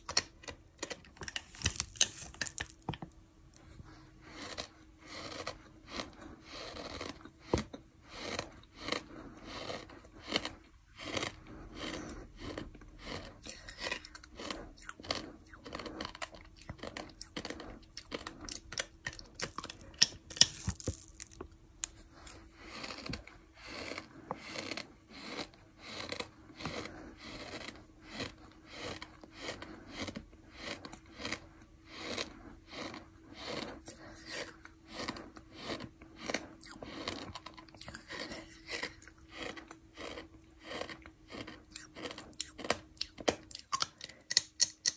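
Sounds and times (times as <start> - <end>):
person chewing gritty sand: 0.0 - 44.9.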